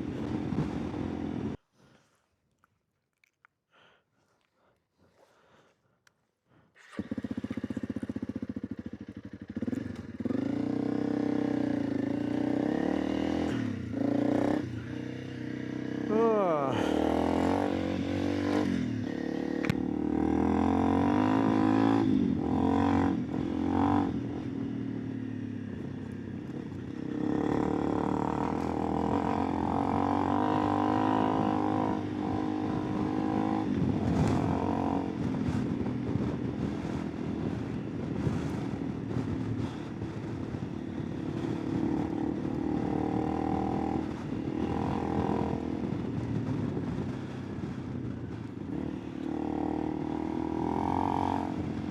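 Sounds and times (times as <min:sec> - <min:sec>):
motorcycle engine running: 0:00.0 - 0:01.6, 0:06.8 - 0:51.9.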